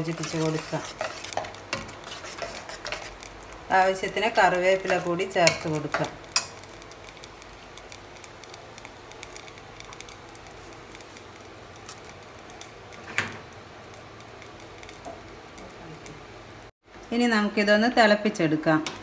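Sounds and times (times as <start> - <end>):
pressure cooker hissing and crackling: 0.0 - 16.7.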